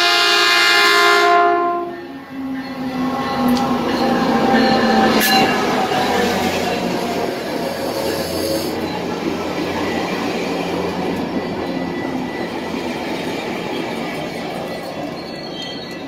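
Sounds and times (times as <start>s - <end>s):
train wheels rumbling on rail: 1.8s - 16.0s.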